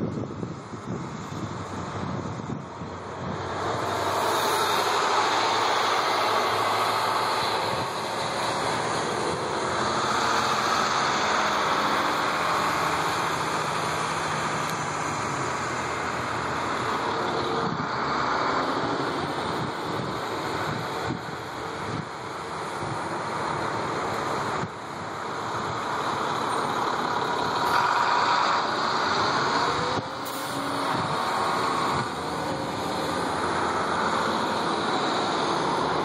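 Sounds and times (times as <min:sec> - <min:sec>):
buses driving off: 0:00.0 - 0:36.0.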